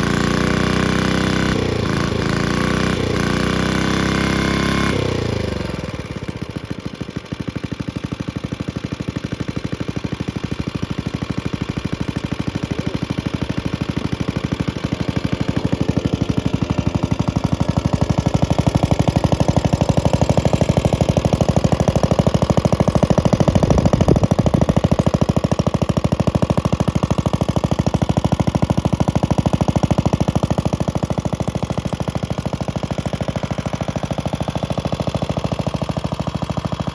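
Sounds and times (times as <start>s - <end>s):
single-cylinder engine running: 0.0s - 36.9s.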